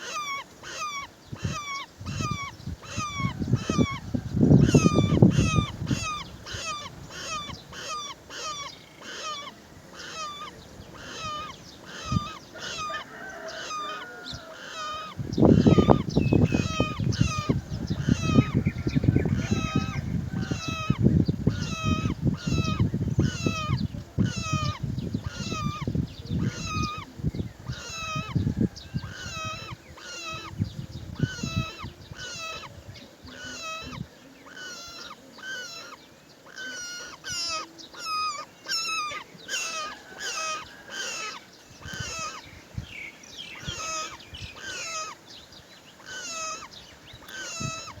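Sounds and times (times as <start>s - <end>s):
bird harsh call: 0.0s - 27.1s, 31.2s - 45.4s, 46.0s - 48.0s.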